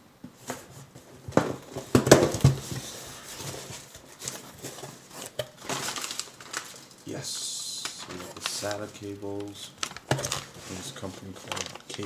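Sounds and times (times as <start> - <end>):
packaging rustling: 0.4 - 12.0.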